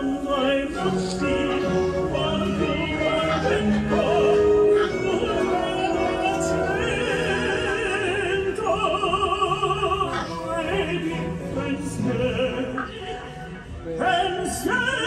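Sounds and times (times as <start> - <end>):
orchestral accompaniment: 0.0 - 14.8
opera singer with vibrato: 0.0 - 15.0.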